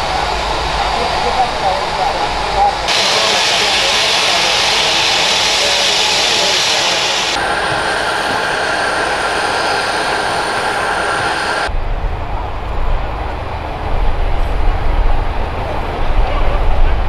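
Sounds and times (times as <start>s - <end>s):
aircraft engine rushing and whine: 0.0s - 17.0s.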